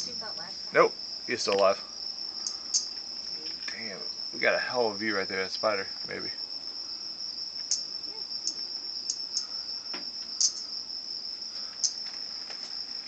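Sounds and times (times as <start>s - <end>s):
insect chirps: 0.0s - 13.0s
insects droning: 0.0s - 13.0s.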